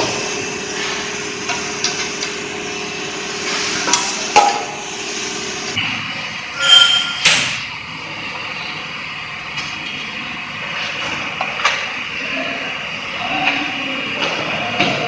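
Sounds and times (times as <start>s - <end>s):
workshop background noise: 0.0s - 15.0s.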